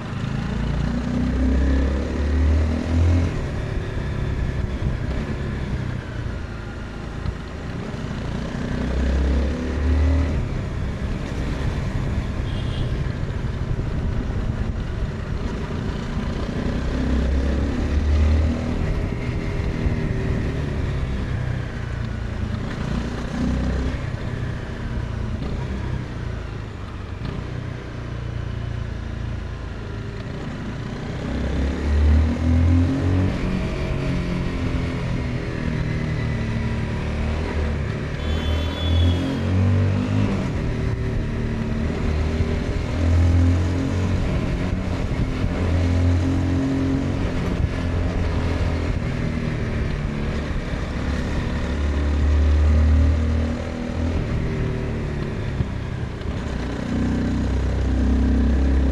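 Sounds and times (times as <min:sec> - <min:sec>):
motorcycle engine revving: 0:07.3 - 0:26.5, 0:30.3 - 0:58.9.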